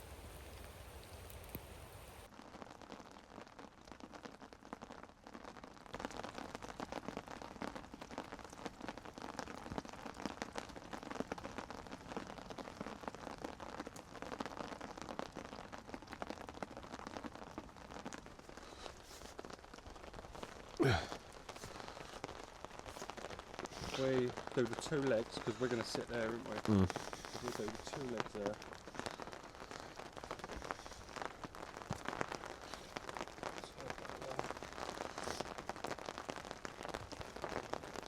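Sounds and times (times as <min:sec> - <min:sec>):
rain pattering: 0:00.0 - 0:38.0.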